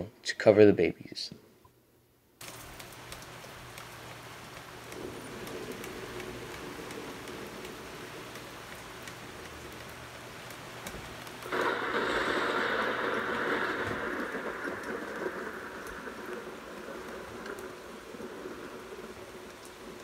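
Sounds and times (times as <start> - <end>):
rain falling: 2.4 - 20.0
raindrops hitting wet patio: 2.4 - 20.0.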